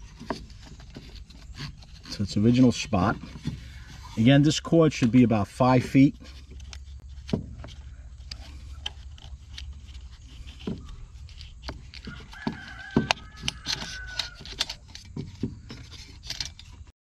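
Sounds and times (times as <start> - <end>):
recoil starter clicks and rubbing: 0.0 - 16.9.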